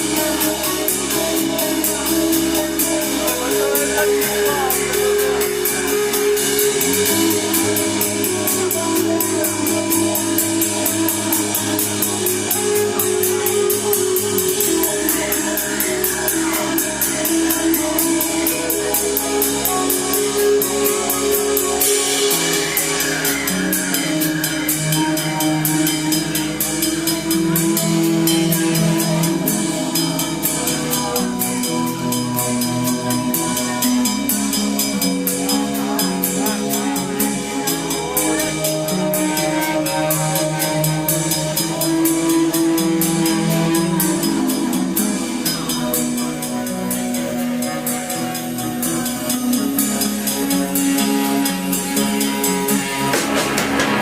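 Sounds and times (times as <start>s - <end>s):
fast cymbal beat: 0.0s - 54.0s
rock band playing: 0.0s - 54.0s.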